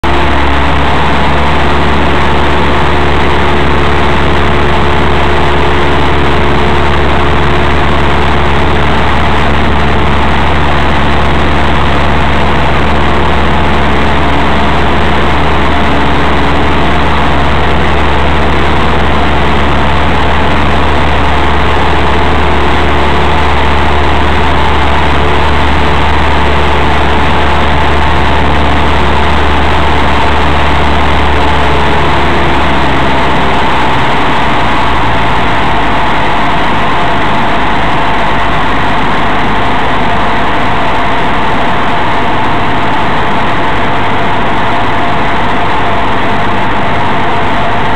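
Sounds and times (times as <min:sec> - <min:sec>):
aircraft engine and propeller droning: 0:00.0 - 0:47.9.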